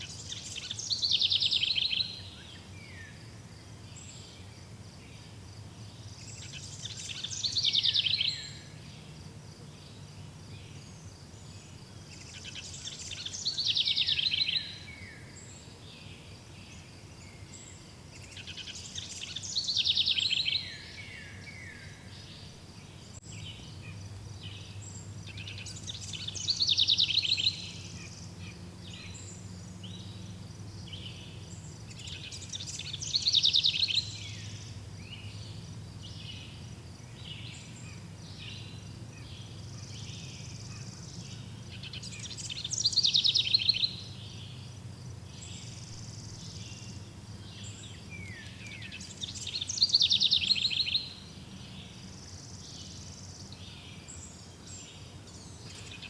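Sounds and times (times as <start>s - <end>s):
songbird singing with trill: 0.0s - 56.0s.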